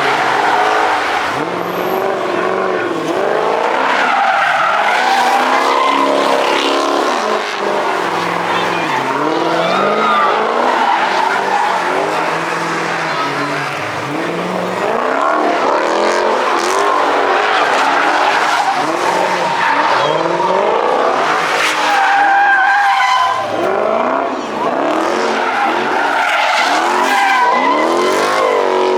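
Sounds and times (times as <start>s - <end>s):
car engine revving: 0.0s - 28.9s
tyres squealing and skidding: 0.0s - 28.9s.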